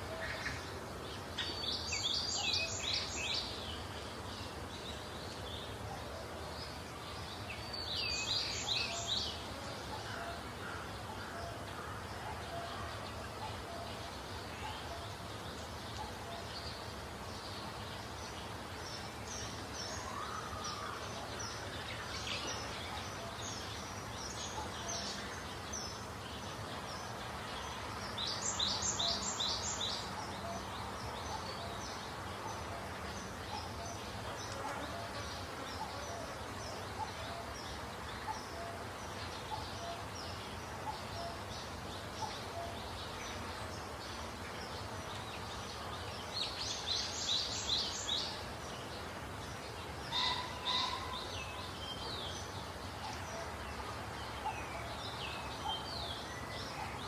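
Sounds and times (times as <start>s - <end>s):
small birds chirping: 0.0s - 57.0s
steady background hiss: 0.0s - 57.0s.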